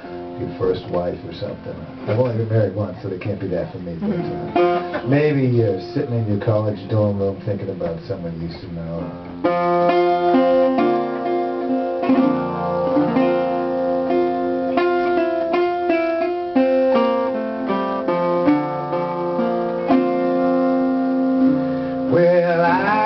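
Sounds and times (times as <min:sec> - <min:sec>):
resonator guitar picking: 0:00.0 - 0:23.0.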